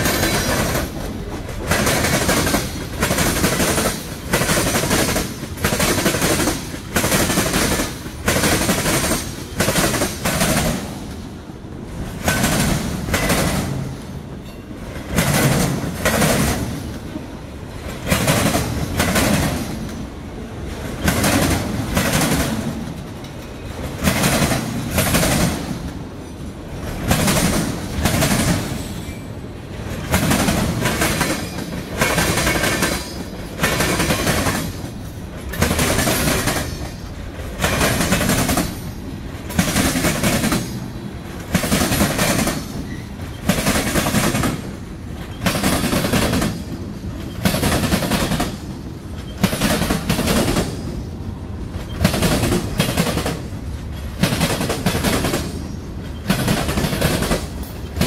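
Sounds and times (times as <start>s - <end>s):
train rolling rumble: 0.0s - 58.0s
train wheels clacking on track: 0.0s - 58.0s.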